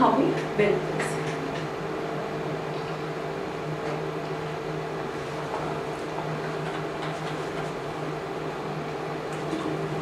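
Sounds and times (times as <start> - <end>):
fan hum: 0.0 - 10.0.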